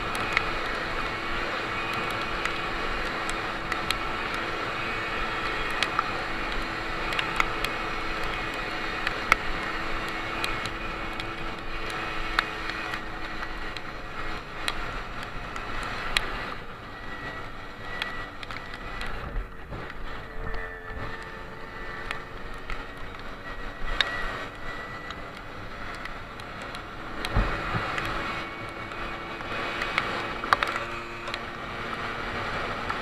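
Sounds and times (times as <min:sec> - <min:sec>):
wind and road noise: 0:00.0 - 0:33.0.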